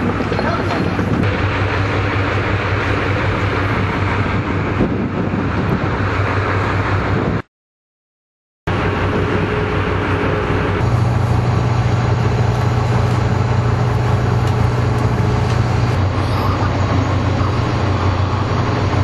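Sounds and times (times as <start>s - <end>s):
boat engine idling: 0.0s - 7.4s, 8.7s - 19.0s.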